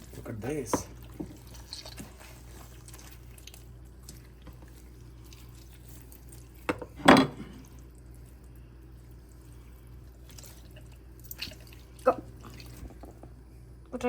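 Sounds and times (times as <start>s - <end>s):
wet handling of chicken skin: 0.0s - 6.7s, 7.4s - 13.2s
steady low hum: 0.0s - 14.0s.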